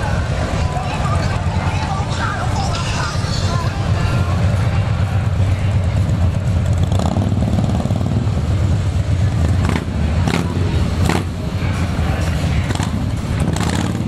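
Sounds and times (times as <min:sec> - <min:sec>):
motorcycles idling and rumbling: 0:00.0 - 0:14.0.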